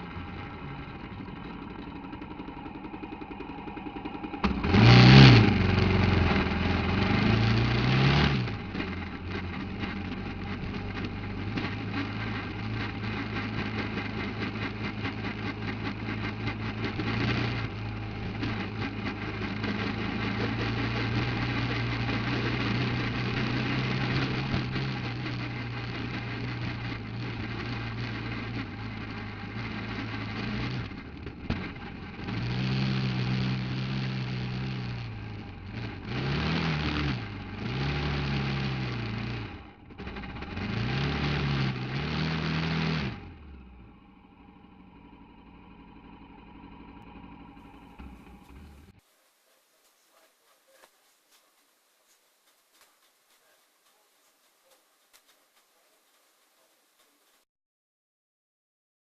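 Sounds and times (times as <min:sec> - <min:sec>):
buggy engine revving: 0:00.0 - 0:57.4.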